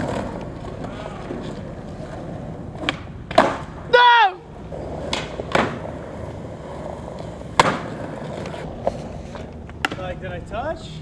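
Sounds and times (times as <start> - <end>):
skateboard clacking on ground: 0.0 - 10.4
skateboard wheels rolling on asphalt: 0.0 - 10.9.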